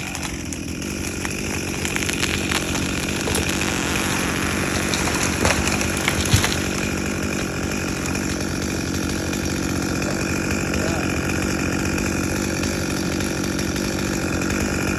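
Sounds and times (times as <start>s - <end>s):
chainsaw engine running: 0.0s - 14.9s.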